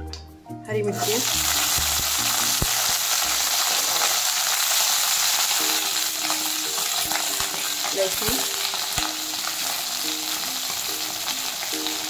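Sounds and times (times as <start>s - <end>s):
chillies sizzling in hot oil: 1.0s - 12.0s.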